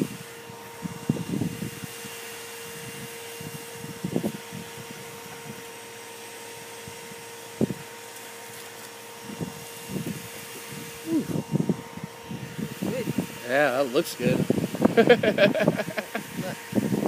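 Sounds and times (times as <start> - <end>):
motor hum with whine: 0.0 - 17.0.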